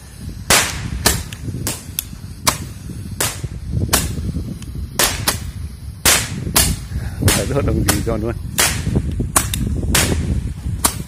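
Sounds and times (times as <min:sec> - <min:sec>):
firework tubes popping: 0:00.0 - 0:11.0.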